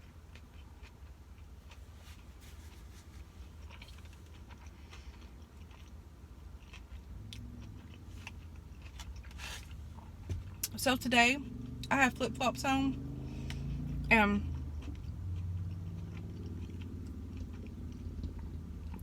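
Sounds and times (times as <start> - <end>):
person chewing crunchy food: 0.0 - 10.7, 12.9 - 19.0.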